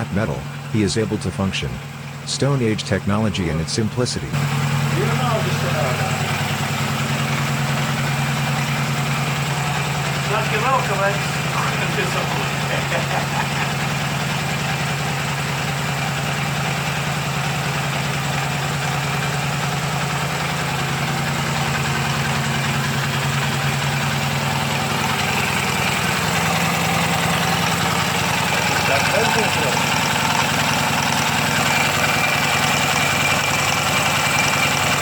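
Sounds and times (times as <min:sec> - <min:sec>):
motorcycle engine idling: 0:00.0 - 0:00.8, 0:01.7 - 0:02.3, 0:04.2 - 0:35.0
noisy engine valves: 0:00.0 - 0:35.0.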